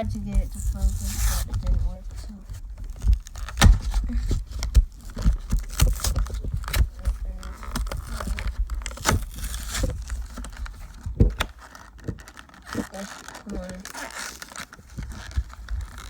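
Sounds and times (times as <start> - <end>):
sharp clicks and knocks: 0.0 - 13.0
packaging crinkling and tearing: 0.0 - 16.0.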